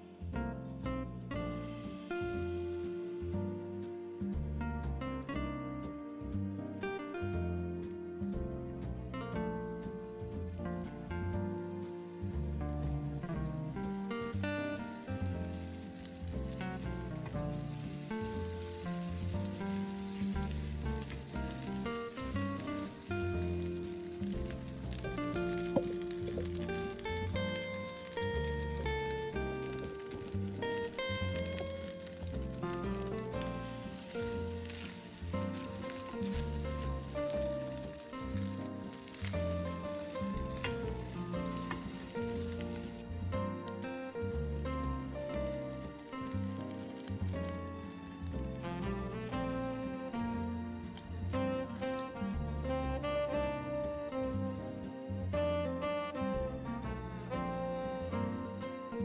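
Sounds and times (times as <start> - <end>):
background music melody: 0.0 - 59.0
rice sizzling in oil: 7.0 - 54.4.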